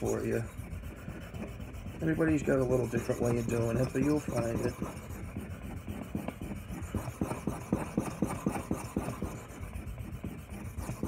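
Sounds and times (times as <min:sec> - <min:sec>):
knife grinding on whetstone: 0:00.0 - 0:09.6.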